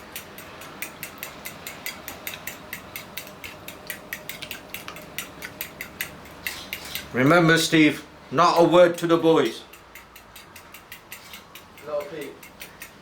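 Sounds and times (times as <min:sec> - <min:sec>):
fork beating eggs in a bowl: 0:00.0 - 0:07.4, 0:08.6 - 0:13.0.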